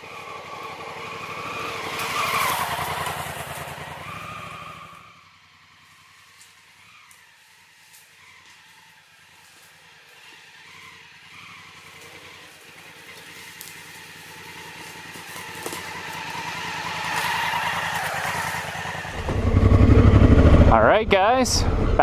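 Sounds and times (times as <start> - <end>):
vehicle engine approaching: 0.0 - 6.3, 9.4 - 22.0.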